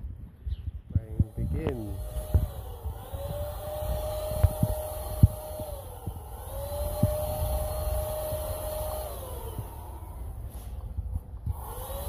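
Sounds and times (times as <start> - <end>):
paint sprayer motor whining: 1.0 - 12.0.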